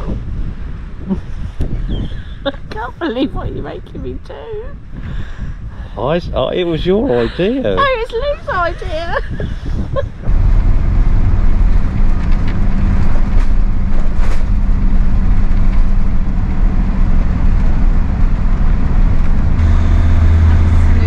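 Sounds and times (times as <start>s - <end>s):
engine drone: 0.0s - 21.0s
road noise: 0.0s - 21.0s.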